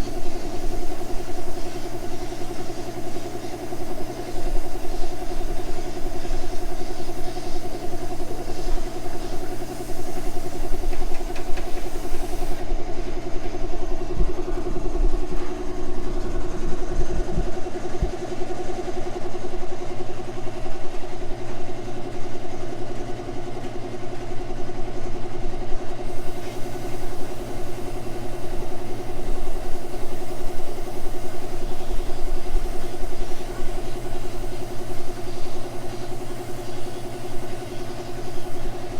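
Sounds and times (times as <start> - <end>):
air compressor humming: 0.0 - 38.9.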